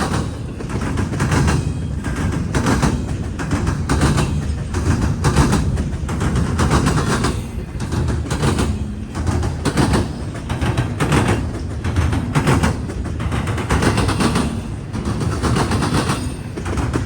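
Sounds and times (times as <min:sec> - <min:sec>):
low rumble of rolling train: 0:00.0 - 0:17.0
train wheels banging over crossing: 0:00.0 - 0:17.0.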